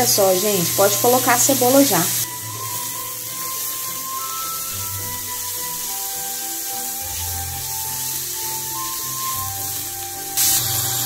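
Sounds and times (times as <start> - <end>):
background music with held notes: 0.0 - 11.0
onion sizzling in oil: 0.0 - 11.0.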